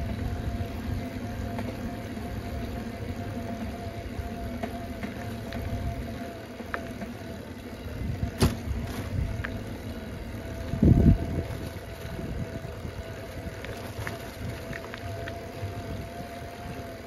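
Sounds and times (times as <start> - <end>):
bicycle clicks and rattles: 0.0 - 17.0
bicycle rumble on asphalt: 0.0 - 17.0
faint steady hum: 0.0 - 17.0.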